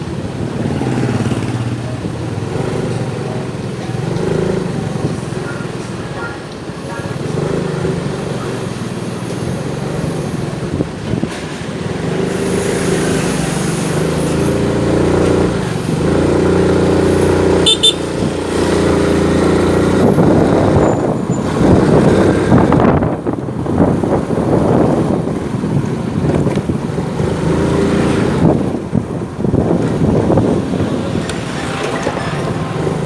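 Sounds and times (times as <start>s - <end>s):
street traffic noise: 0.0s - 33.0s.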